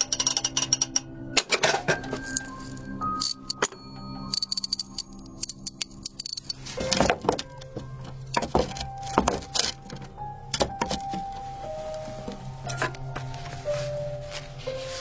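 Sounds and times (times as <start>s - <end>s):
music with held tones: 0.0s - 15.0s.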